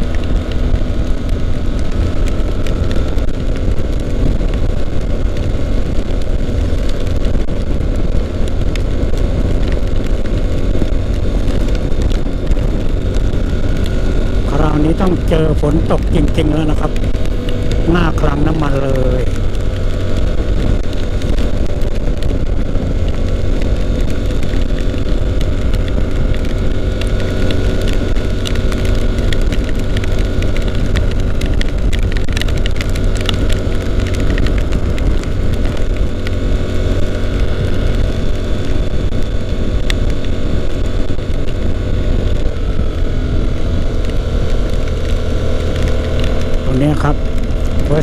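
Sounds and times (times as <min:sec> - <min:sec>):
motorcycle engine cruising: 0:00.0 - 0:48.0
raindrops ticking on microphone: 0:00.0 - 0:48.0
wind rush on microphone: 0:00.0 - 0:48.0.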